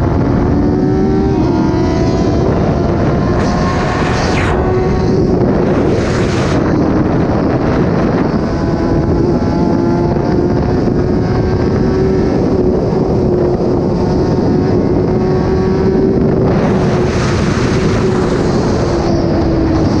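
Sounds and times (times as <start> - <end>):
motorcycle engine at steady revs: 0.0 - 3.6, 5.6 - 20.0
wind rushing over microphone: 0.0 - 20.0.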